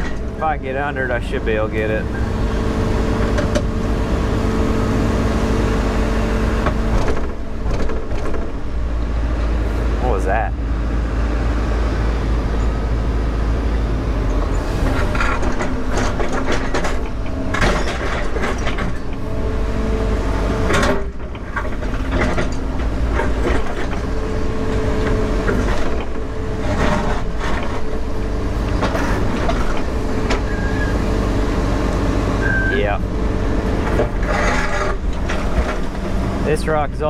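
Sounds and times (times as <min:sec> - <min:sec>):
diesel engine running: 0:00.0 - 0:37.0
hydraulic whine: 0:00.0 - 0:37.0.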